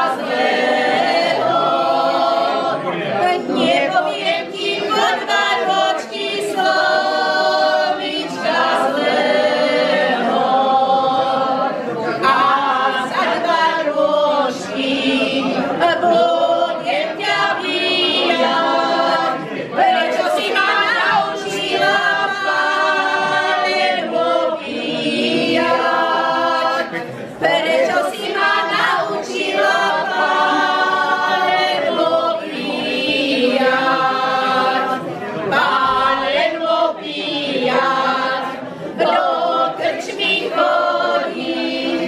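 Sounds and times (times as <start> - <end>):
group singing unaccompanied: 0.0 - 42.0.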